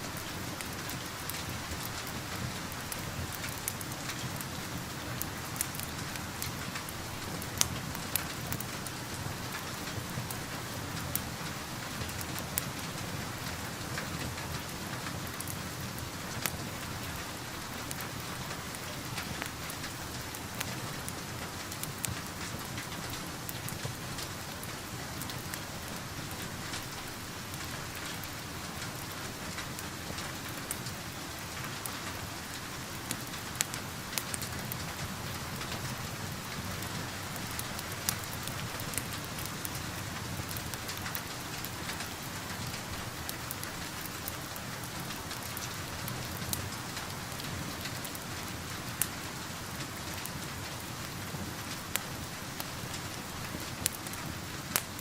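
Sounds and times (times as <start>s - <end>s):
steady rain pattering: 0.0s - 55.0s
wood fire crackling: 0.0s - 55.0s.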